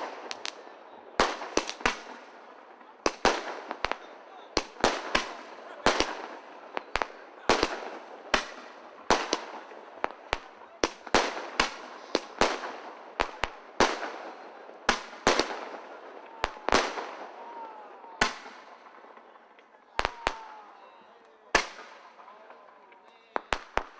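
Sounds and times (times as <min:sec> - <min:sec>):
fireworks bangs echoing: 0:00.0 - 0:23.9.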